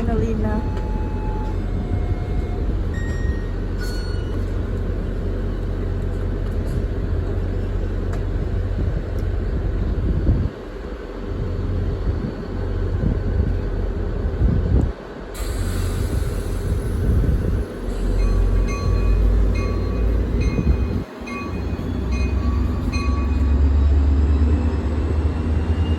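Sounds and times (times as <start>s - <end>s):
diesel locomotive drone: 0.0s - 25.9s.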